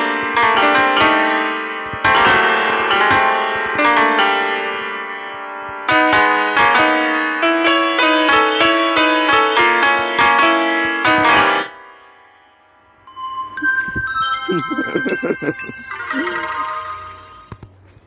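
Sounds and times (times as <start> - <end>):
piano music: 0.0 - 17.7.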